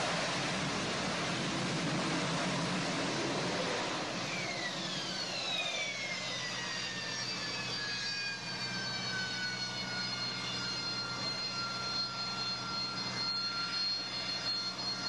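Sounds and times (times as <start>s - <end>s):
jet engine rush: 0.0s - 15.0s
jet engine whines sliding down: 0.0s - 15.0s.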